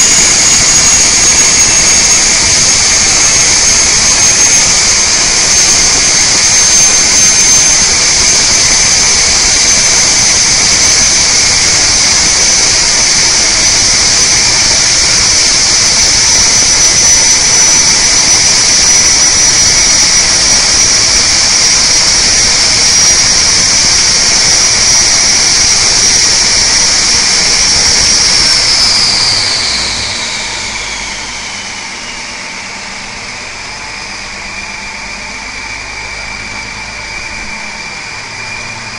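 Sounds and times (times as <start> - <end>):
turbocharger whine: 0.0 - 38.9.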